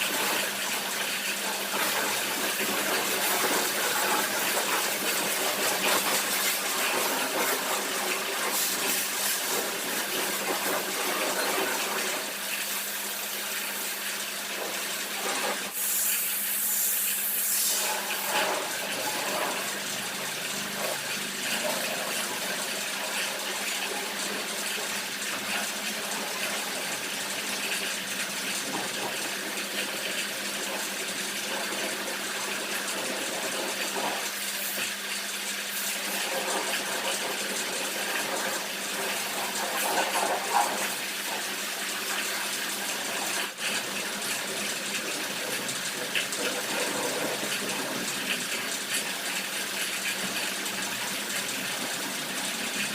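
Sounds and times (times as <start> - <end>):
pressure washer spraying water: 0.0 - 52.9
pump hum: 0.0 - 52.9.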